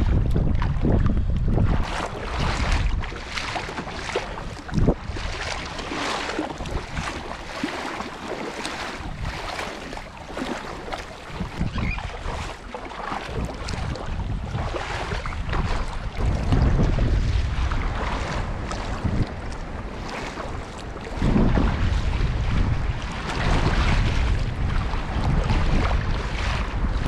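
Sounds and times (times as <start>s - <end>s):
paddle strokes splashing water: 0.0s - 27.0s
wind buffeting microphone: 0.0s - 27.0s.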